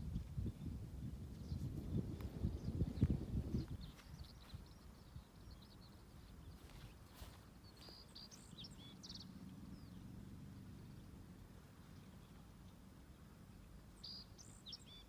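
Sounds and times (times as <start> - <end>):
birds chirping: 0.0 - 15.0
low outdoor hum: 0.0 - 15.0.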